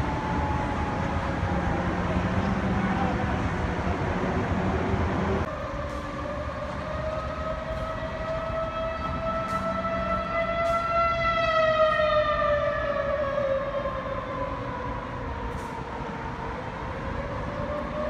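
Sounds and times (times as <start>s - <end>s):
warning siren wailing: 0.0s - 18.0s.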